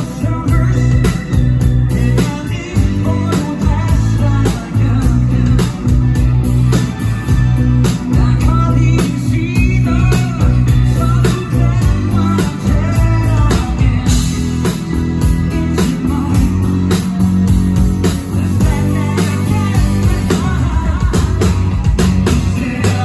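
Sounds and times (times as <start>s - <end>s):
man singing: 0.0s - 6.3s, 7.3s - 17.3s, 18.0s - 23.0s
deep bass notes: 0.0s - 23.0s
drums: 0.0s - 23.0s
electric guitar: 0.0s - 23.0s.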